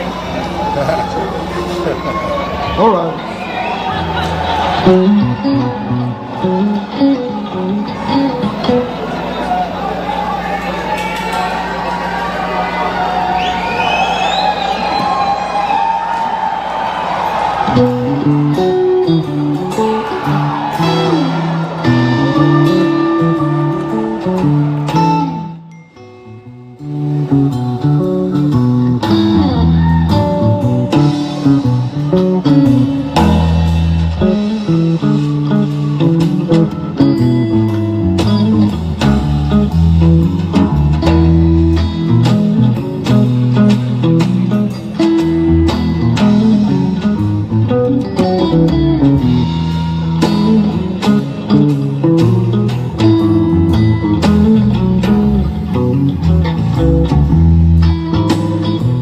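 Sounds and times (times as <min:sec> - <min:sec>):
bass guitar line: 0:00.0 - 0:59.0
electric guitar notes: 0:00.0 - 0:59.0.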